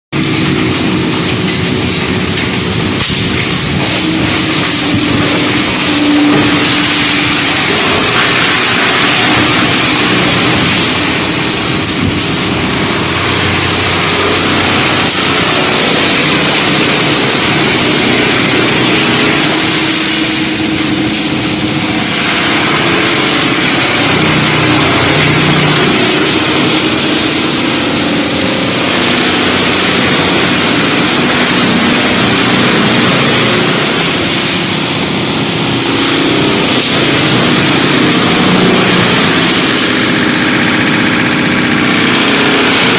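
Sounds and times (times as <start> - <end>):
wood chipper grinding timber: 0.1 - 42.9.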